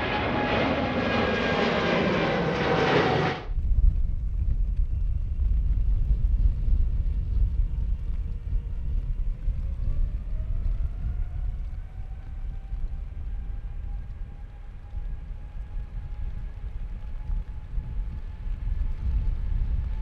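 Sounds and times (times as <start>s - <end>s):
jet airliner rumble: 0.0s - 20.0s
jet engine whine: 0.0s - 20.0s.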